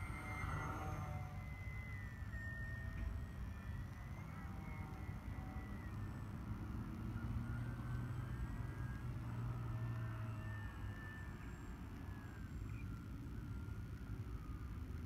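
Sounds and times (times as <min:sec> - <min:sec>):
model plane propeller whining: 0:00.0 - 0:15.0.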